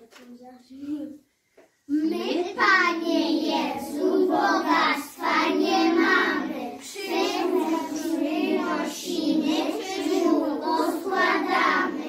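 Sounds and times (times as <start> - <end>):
children singing together: 1.9 - 12.0.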